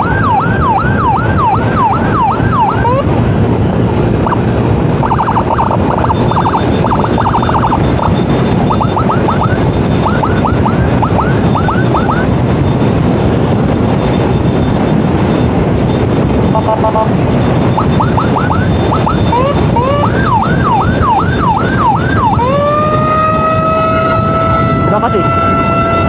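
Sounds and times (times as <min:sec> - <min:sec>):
electronic siren wailing: 0:00.0 - 0:13.0, 0:13.9 - 0:26.0
motorcycle riding noise: 0:00.0 - 0:26.0.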